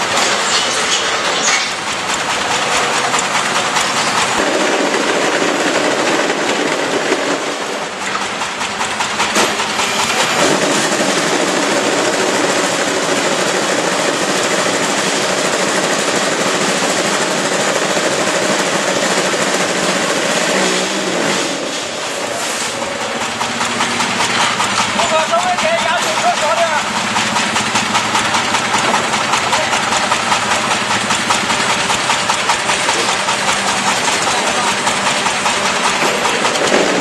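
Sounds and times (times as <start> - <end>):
block making machine running: 0.0 - 37.0.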